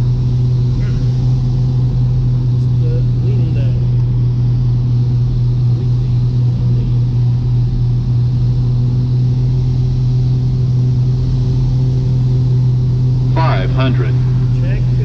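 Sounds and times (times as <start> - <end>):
aircraft engines droning in cockpit: 0.0 - 15.0.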